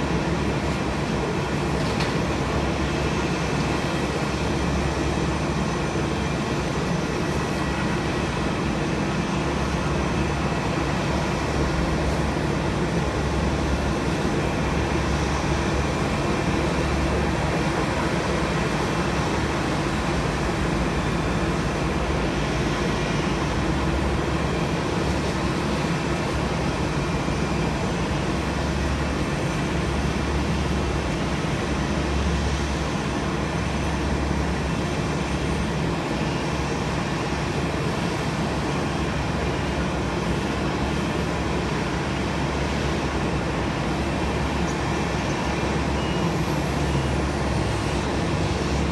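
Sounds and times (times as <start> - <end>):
jet engines rumbling and hissing: 0.0 - 48.9.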